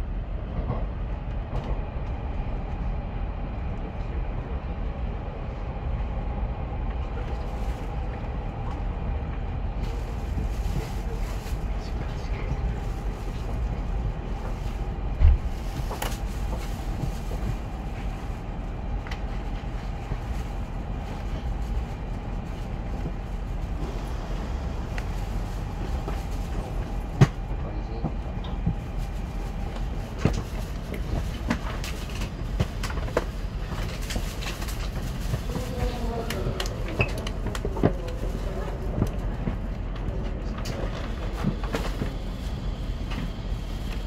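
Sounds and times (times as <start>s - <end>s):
train running rumble: 0.0s - 44.0s.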